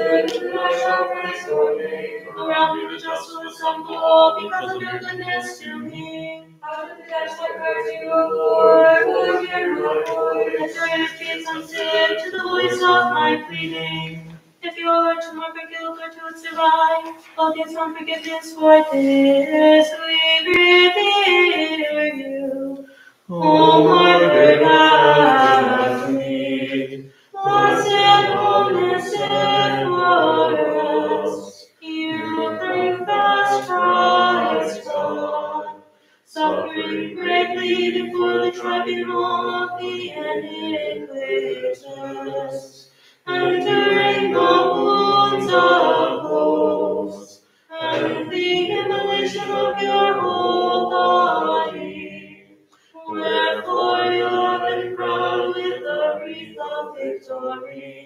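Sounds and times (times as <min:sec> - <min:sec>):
group singing a cappella chant: 0:00.0 - 0:58.0.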